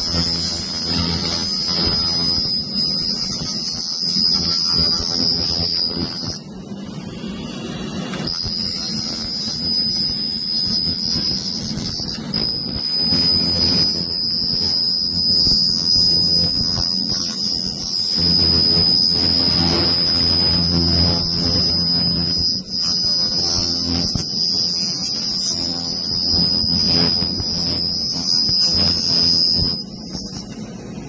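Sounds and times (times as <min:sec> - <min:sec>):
high-pitched laser whine: 0:00.0 - 0:06.5, 0:07.1 - 0:30.6
low rough machine noise: 0:00.0 - 0:31.0.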